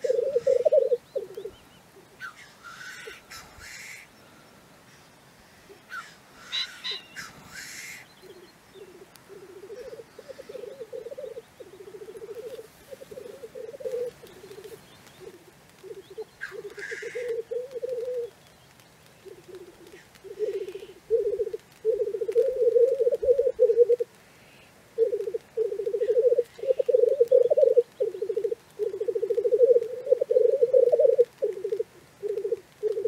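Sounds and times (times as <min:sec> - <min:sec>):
grouse bubbling cooing song: 0:00.0 - 0:03.8, 0:06.5 - 0:18.4, 0:19.2 - 0:24.2, 0:25.0 - 0:33.0
grouse harsh hissing calls: 0:00.0 - 0:04.2, 0:04.9 - 0:18.3, 0:19.2 - 0:33.0.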